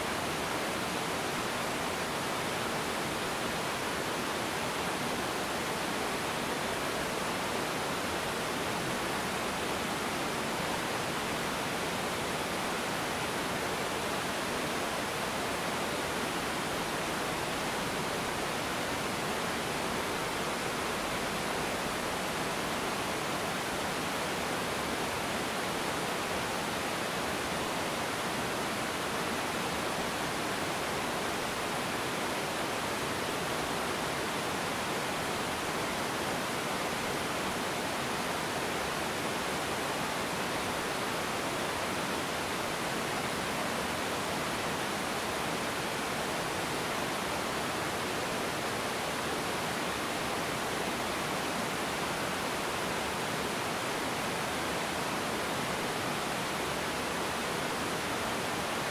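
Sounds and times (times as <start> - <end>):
waterfall rushing over rocks: 0.0 - 58.9.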